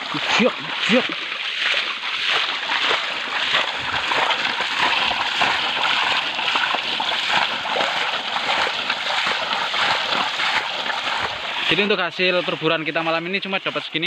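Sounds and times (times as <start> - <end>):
hands splashing in water: 0.0 - 13.1
running stream: 0.0 - 14.0.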